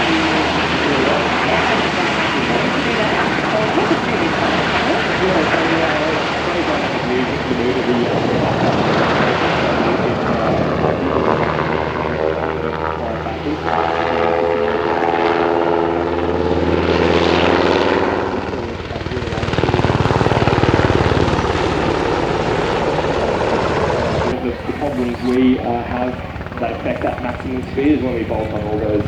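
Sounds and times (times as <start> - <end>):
aircraft flying past: 0.0 - 29.0
broad rumble: 0.0 - 29.0.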